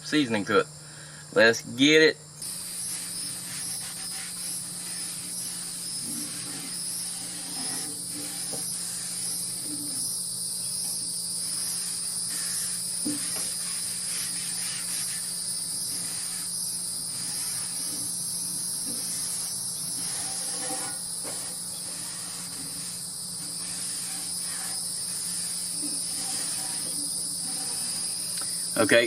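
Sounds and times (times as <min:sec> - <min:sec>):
shrill insect chorus: 0:00.0 - 0:29.0.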